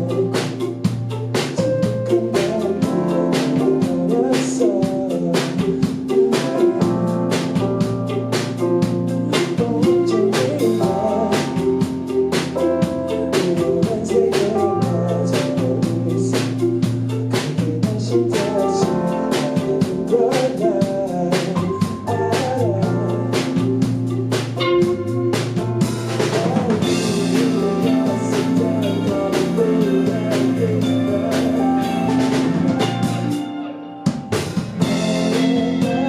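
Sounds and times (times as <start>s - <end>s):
person singing: 0.0s - 0.9s, 1.5s - 24.0s, 24.6s - 36.0s
drum kit beat: 0.0s - 36.0s.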